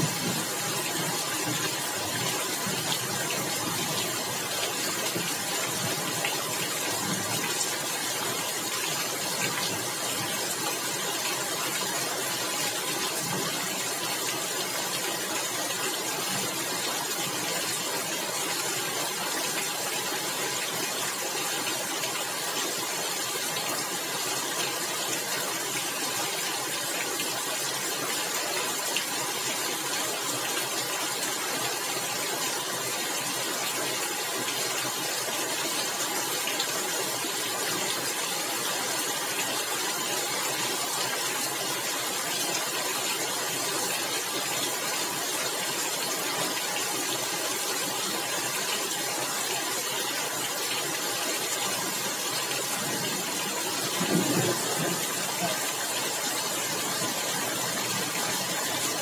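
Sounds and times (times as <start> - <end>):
rain on a tiled roof: 0.0 - 59.0.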